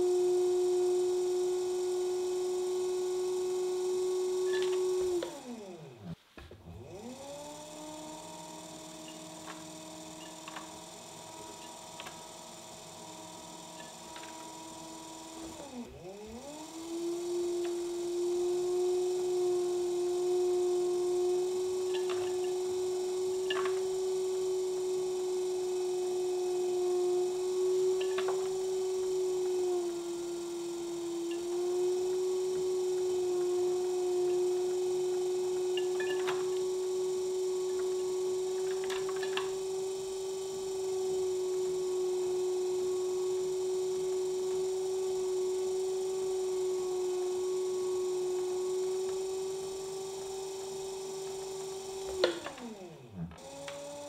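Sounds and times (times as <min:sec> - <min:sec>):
pottery wheel motor whining: 0:00.0 - 0:54.0.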